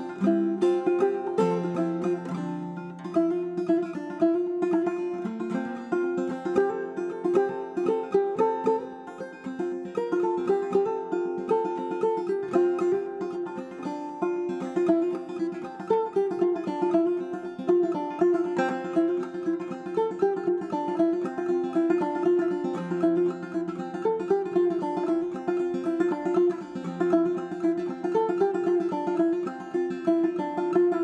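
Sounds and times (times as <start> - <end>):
banjo playing: 0.0 - 31.0.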